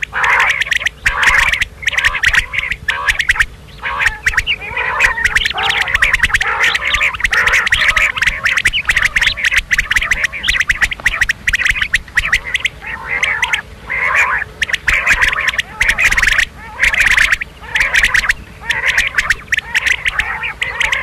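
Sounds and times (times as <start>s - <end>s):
quail chattering and squawking: 0.0s - 21.0s.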